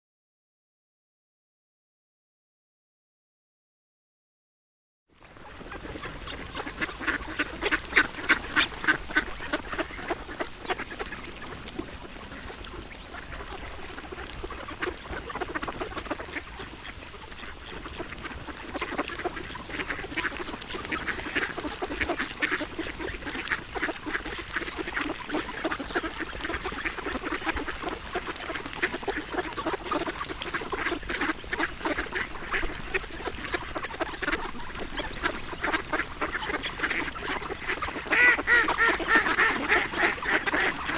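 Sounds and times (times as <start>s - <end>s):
ducks quacking: 5.4s - 40.9s.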